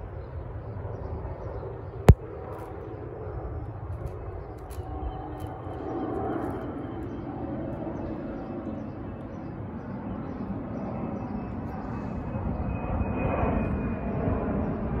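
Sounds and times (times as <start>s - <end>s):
faint thin whine: 1.9s - 15.0s.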